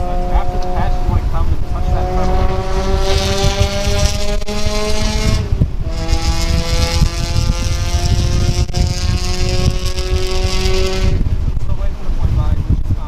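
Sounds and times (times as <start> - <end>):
car engine accelerating: 0.0 - 12.2
tyre and road noise: 0.0 - 13.0.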